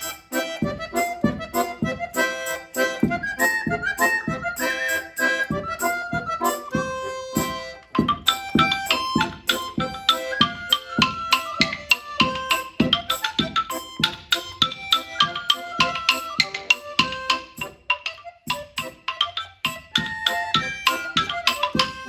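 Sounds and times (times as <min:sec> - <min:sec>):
solo accordion playing: 0:00.0 - 0:22.0.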